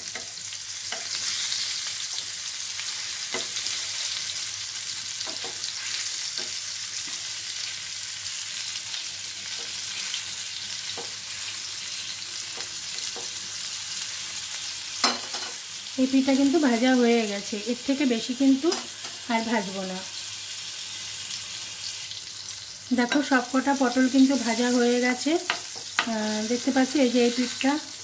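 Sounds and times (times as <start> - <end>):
vegetables sizzling in oil: 0.0 - 28.0.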